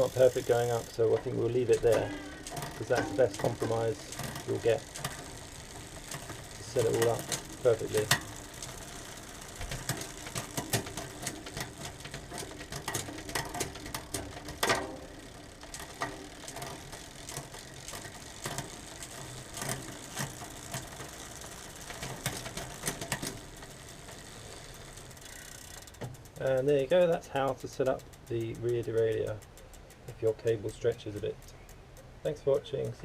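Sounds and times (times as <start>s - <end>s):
bicycle chain running over cassette: 0.0s - 33.0s
chain shifting clicks: 0.0s - 33.0s.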